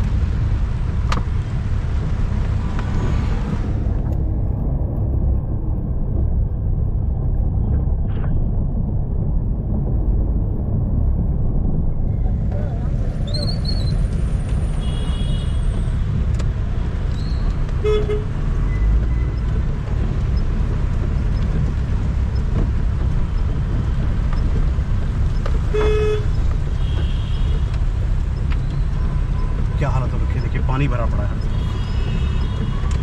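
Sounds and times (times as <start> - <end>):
vehicle driving rumble: 0.0 - 33.0.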